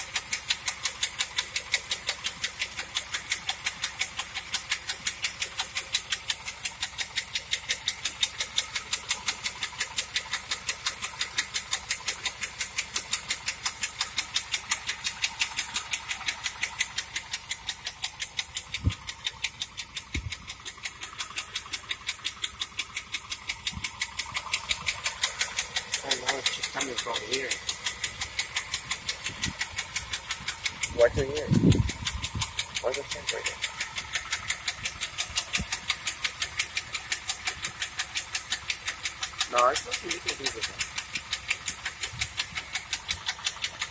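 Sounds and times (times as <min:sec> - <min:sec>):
car engine idling: 0:00.0 - 0:43.9
sharp engine ticking: 0:00.0 - 0:43.9.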